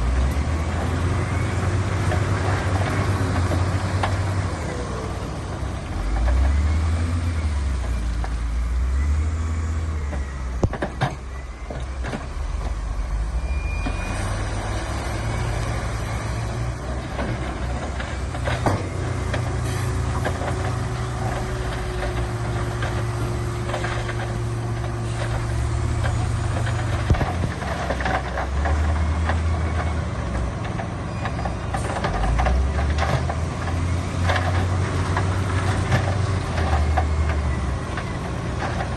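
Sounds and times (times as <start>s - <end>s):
heavy diesel machinery droning: 0.0s - 38.9s.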